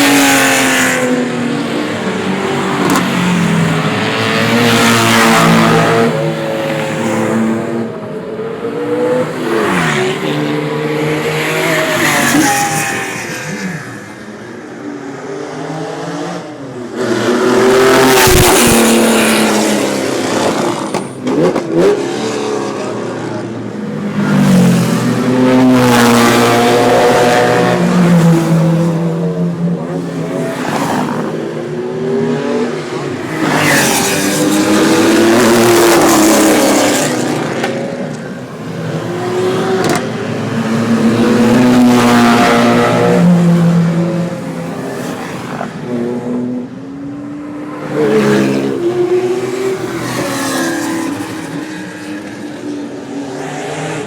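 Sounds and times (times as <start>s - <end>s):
sports cars revving past: 0.0s - 54.0s.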